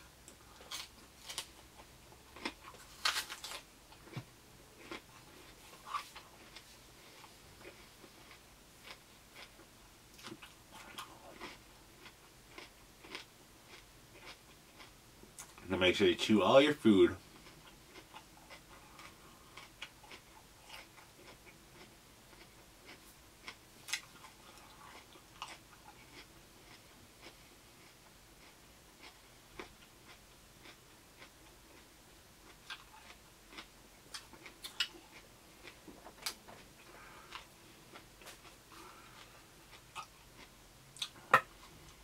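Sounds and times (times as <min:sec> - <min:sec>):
person chewing raw vegetables: 0:00.1 - 0:15.6, 0:17.2 - 0:42.0.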